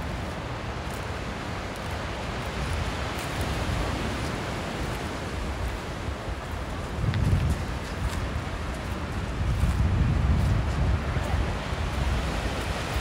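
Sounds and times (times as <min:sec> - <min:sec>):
sea waves washing onto beach: 0:00.0 - 0:13.0
wind rumble on microphone: 0:00.0 - 0:13.0.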